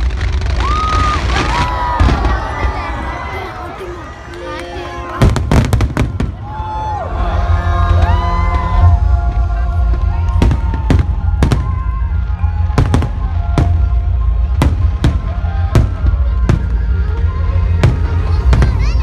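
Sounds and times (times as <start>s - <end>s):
fireworks bangs: 0.0s - 7.1s, 10.0s - 19.0s
heavy low rumble: 0.0s - 19.0s
music playing: 1.5s - 19.0s.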